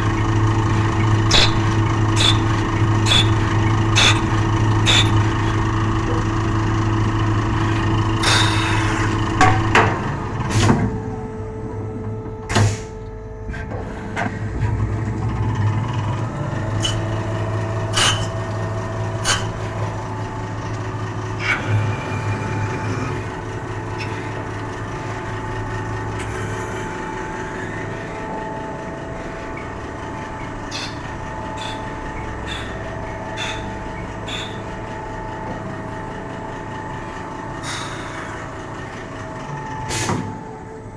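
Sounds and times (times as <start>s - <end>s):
lathe motor and spindle hum: 0.0s - 40.9s.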